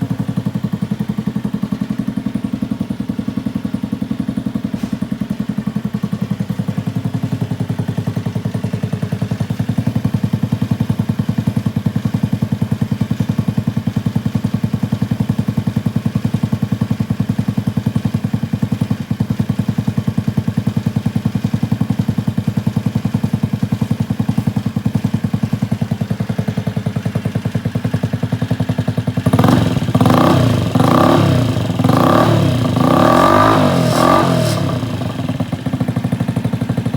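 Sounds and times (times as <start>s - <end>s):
scooter engine idling: 0.0s - 36.9s.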